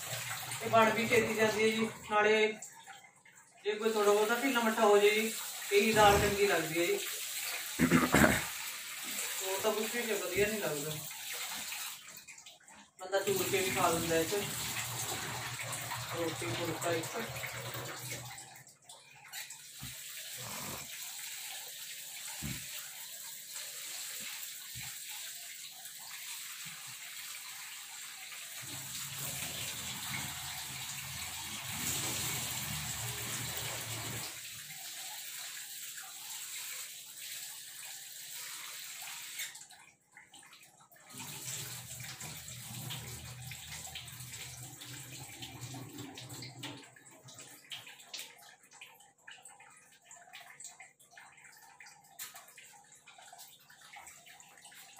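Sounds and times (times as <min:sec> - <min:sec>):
water splashing and sloshing: 0:00.0 - 0:54.9.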